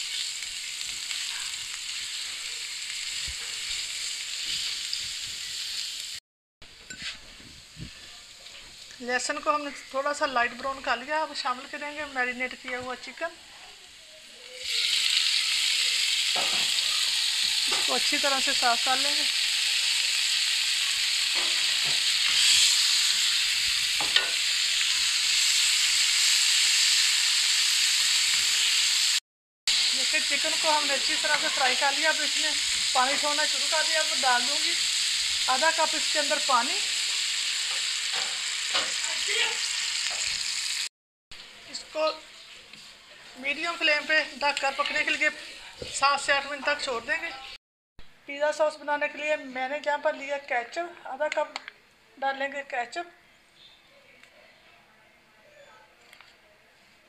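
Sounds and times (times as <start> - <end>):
garlic sizzling in oil: 0.0 - 47.6.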